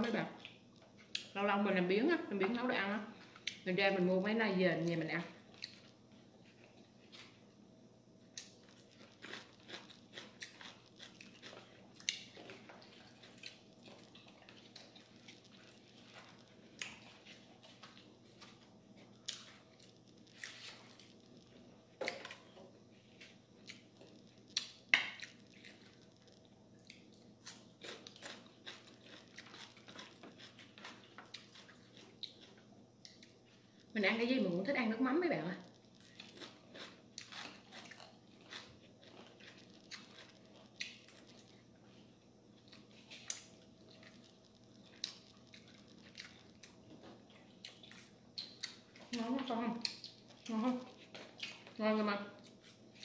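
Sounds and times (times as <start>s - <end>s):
faint steady hum: 0.0s - 53.0s
chewing: 4.8s - 7.5s, 8.3s - 33.9s, 35.6s - 53.0s.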